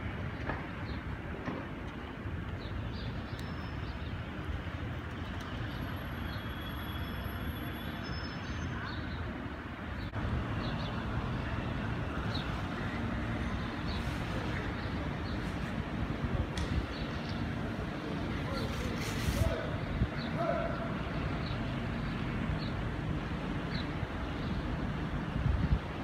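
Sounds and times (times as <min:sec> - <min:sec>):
street traffic hum: 0:00.0 - 0:26.0.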